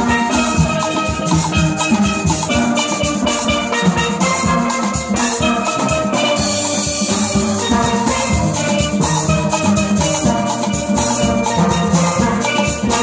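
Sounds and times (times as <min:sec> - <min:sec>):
steel band playing: 0:00.0 - 0:13.0.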